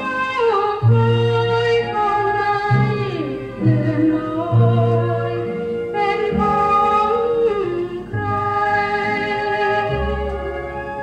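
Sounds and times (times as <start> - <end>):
song from vinyl record: 0.0 - 11.0
woman singing: 0.0 - 11.0.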